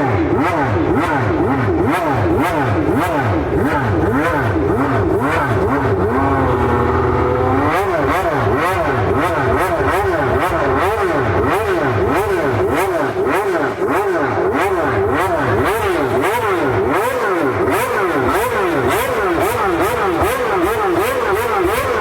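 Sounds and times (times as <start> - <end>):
racing car engine revving: 0.0 - 22.0.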